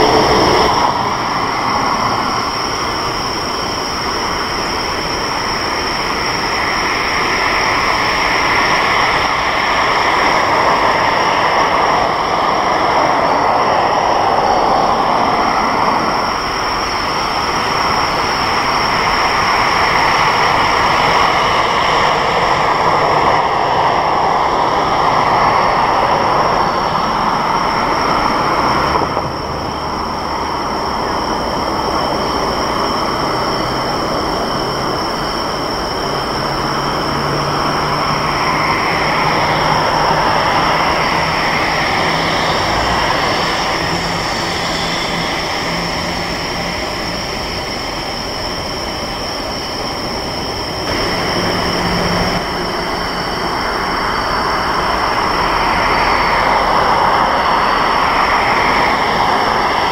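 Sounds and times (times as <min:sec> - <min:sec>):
distant jet engines taxiing: 0:00.0 - 0:59.9.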